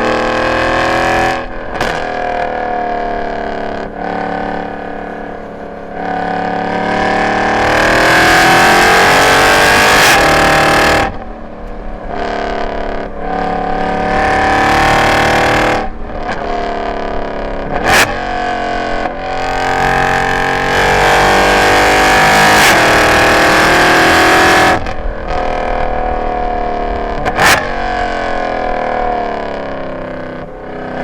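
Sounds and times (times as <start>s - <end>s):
car engine accelerating: 0.0s - 31.0s
exhaust crack: 0.0s - 31.0s.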